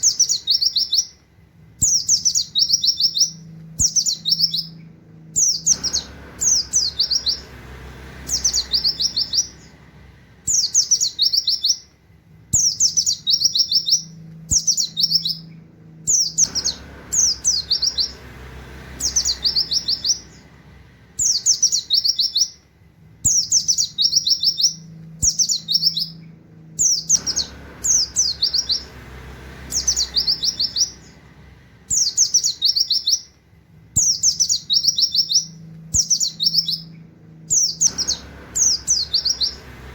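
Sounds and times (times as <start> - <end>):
bird singing rapid high notes: 0.0 - 1.2, 1.8 - 33.4, 34.0 - 39.9.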